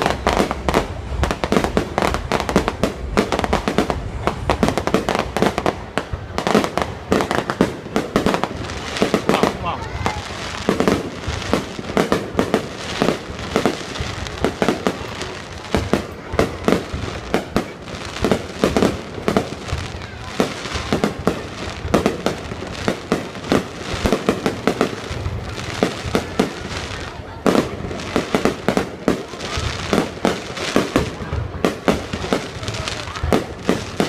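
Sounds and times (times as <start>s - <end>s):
crackling rumble: 0.0s - 34.0s
firework bangs: 0.0s - 34.0s.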